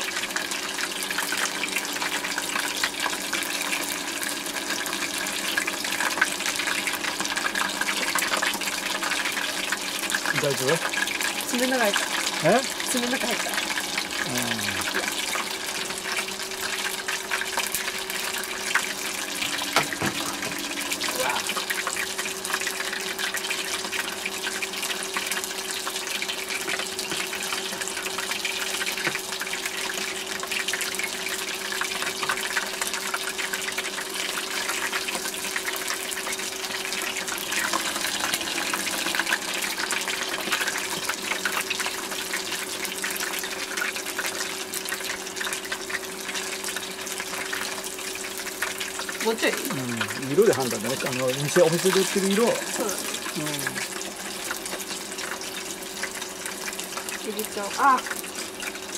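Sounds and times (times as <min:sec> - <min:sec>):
chicken deep-frying in oil: 0:00.0 - 0:58.9.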